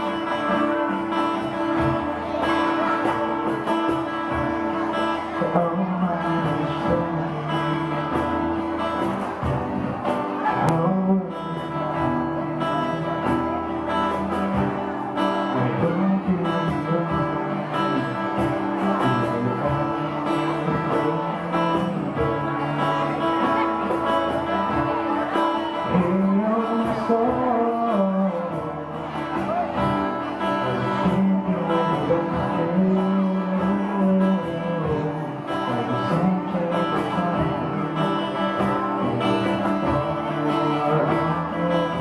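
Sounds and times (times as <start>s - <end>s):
electric guitar: 0.0s - 42.0s
live rock band playing: 0.0s - 42.0s.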